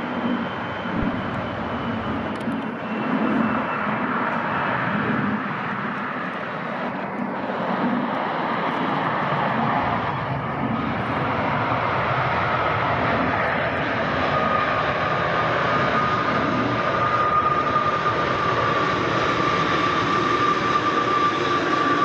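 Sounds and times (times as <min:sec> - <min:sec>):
faint high engine whine: 0:00.0 - 0:22.0
jet engines rushing: 0:00.0 - 0:22.0.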